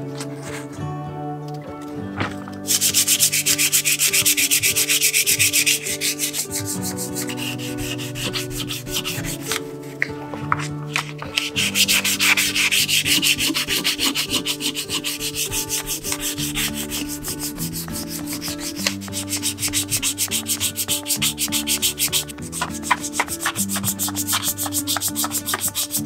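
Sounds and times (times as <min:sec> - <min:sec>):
hand rubbing metal: 0:02.7 - 0:26.0.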